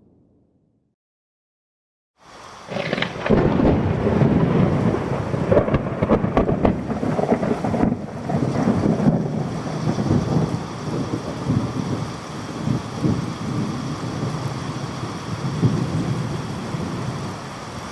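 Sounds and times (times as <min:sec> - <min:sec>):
rain hissing: 0:02.2 - 0:17.9
thunder rumbling: 0:02.7 - 0:17.9.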